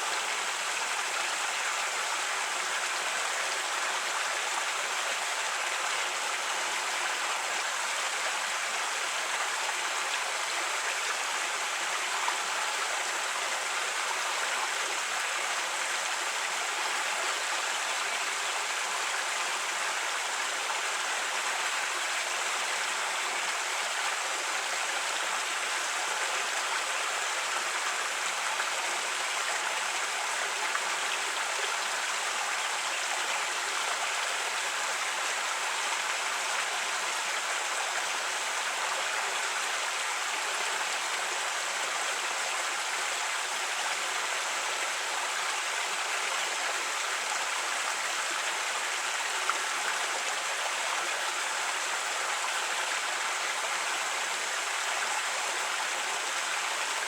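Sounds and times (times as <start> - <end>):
creek water flowing over rocks: 0.0 - 57.0.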